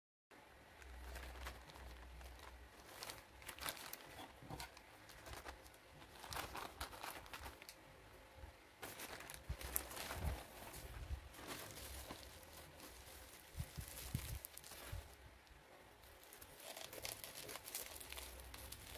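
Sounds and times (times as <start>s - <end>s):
plastic mailer bag crinkling: 0.8s - 7.8s, 8.8s - 15.3s, 16.0s - 18.9s.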